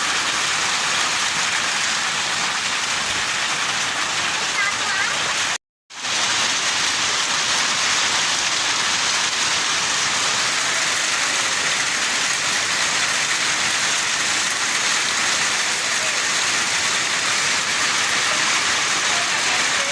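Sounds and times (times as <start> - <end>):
heavy rain hissing: 0.0 - 19.9.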